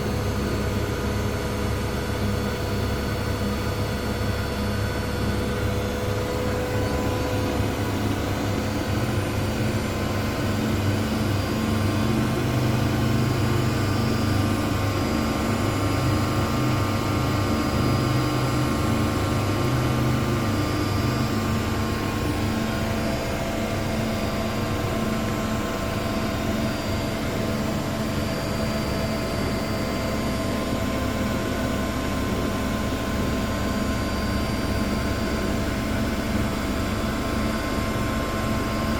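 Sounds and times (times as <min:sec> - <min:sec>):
washing machines spinning: 0:00.0 - 0:38.9.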